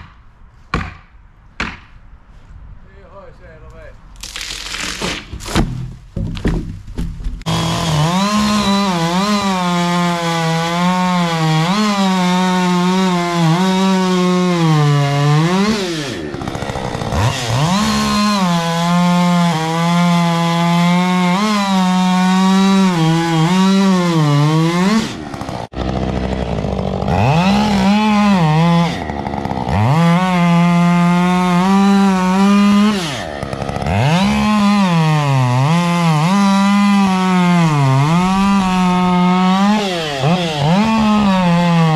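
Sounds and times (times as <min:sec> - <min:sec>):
chainsaw cutting at high revs: 0:07.4 - 0:41.9.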